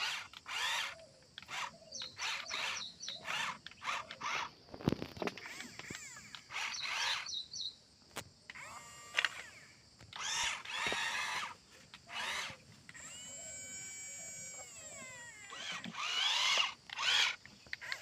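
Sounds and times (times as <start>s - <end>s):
small electric motors whirring: 0.0s - 7.5s, 8.5s - 18.0s.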